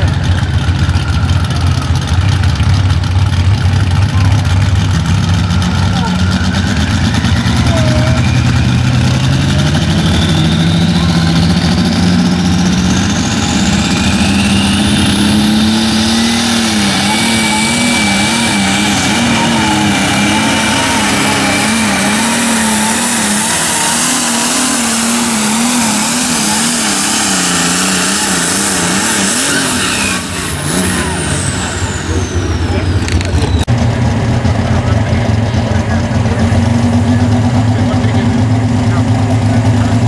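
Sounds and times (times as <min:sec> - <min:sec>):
tractor diesel engine under full power: 0:00.0 - 0:40.0
high whine climbing in pitch: 0:05.4 - 0:38.2.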